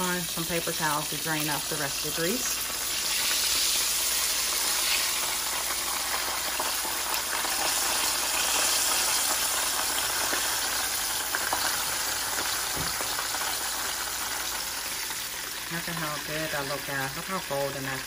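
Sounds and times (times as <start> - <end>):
hot oil sizzling in a frying pan: 0.0 - 18.0.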